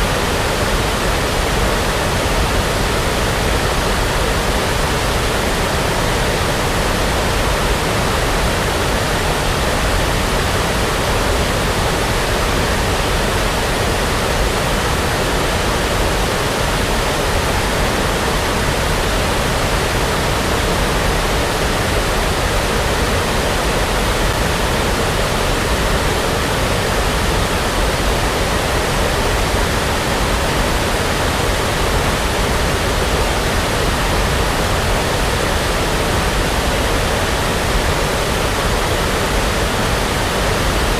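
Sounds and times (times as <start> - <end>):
brown noise hiss: 0.0 - 40.9.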